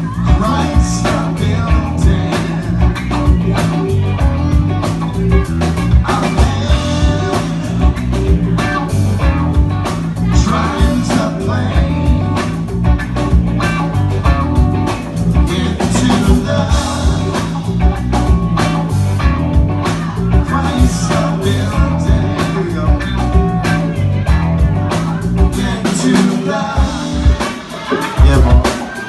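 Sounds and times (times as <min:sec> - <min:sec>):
bass line: 0:00.0 - 0:29.0
drums steady beat: 0:00.0 - 0:29.0
guitar: 0:00.0 - 0:29.0.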